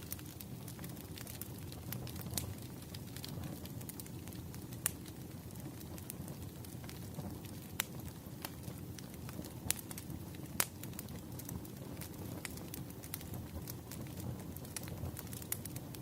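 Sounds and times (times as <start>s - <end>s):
fire popping: 0.0s - 16.0s
fire rumbling: 0.0s - 16.0s.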